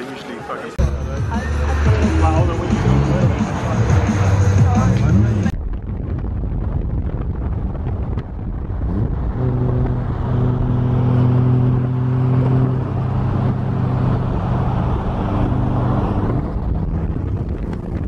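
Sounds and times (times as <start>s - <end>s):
car engine driving: 0.7s - 18.0s
road and wind rumble: 0.8s - 18.0s.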